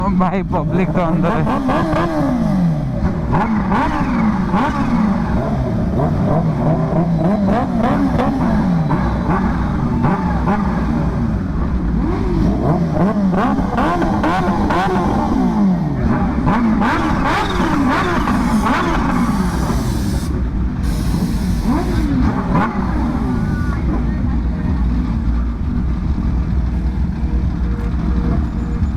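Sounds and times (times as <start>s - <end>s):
motorcycle engine revving hard: 0.4s - 28.9s.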